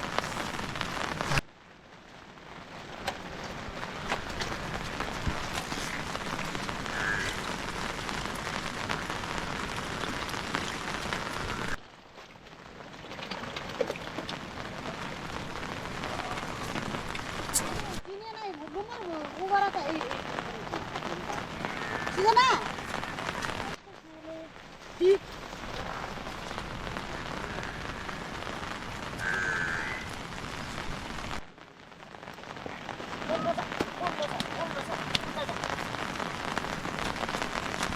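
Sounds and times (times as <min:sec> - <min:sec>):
sharp raindrop impacts: 0:00.0 - 0:37.9
steady rain falling: 0:00.0 - 0:37.9.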